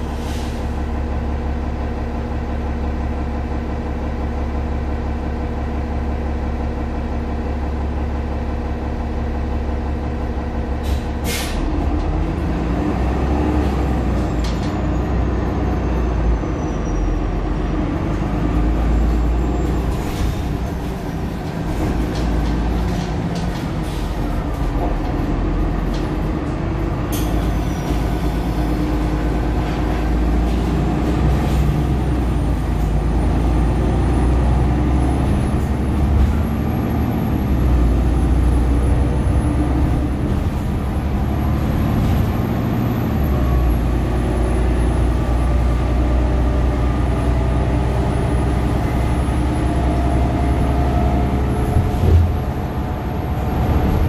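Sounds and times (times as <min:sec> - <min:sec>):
bus diesel engine running: 0:00.0 - 0:54.0
road noise: 0:00.0 - 0:54.0.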